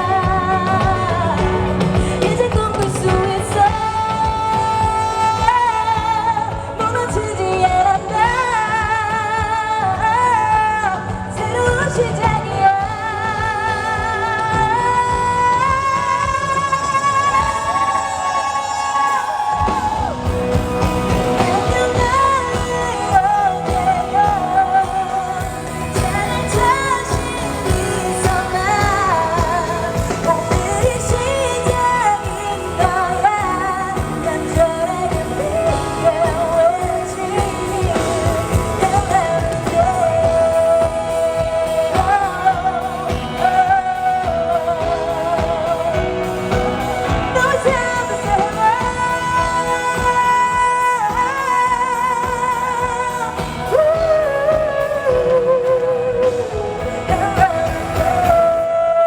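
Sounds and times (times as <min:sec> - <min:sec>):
band playing with steady beat: 0:00.0 - 0:58.7
woman singing: 0:00.0 - 0:59.0.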